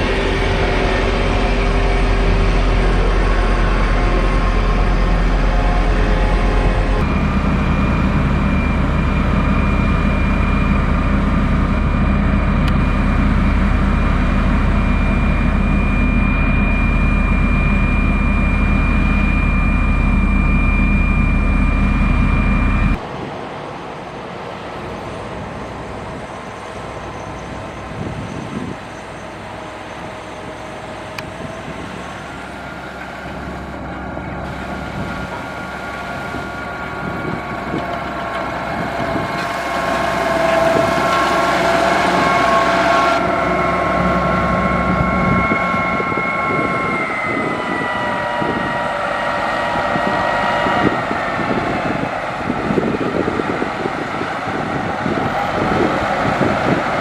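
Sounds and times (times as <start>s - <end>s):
diesel engine low hum: 0.0s - 57.0s
high engine whine: 0.0s - 57.0s.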